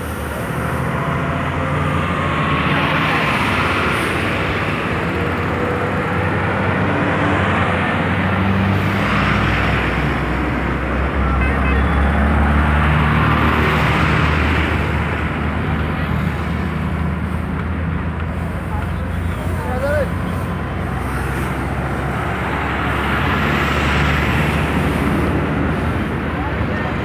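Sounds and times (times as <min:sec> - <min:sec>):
highway traffic rumble: 0:00.0 - 0:27.0.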